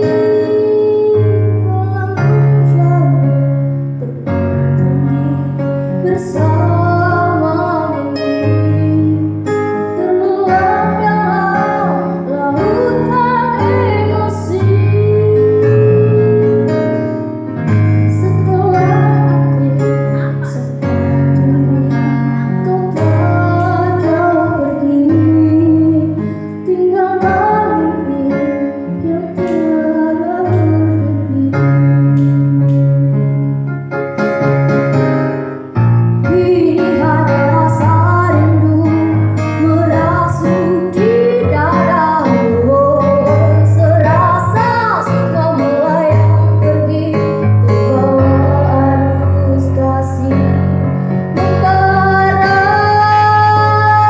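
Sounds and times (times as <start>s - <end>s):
person singing: 0.0s - 17.0s, 18.1s - 33.1s, 36.2s - 54.0s
keyboard accompaniment: 0.0s - 54.0s.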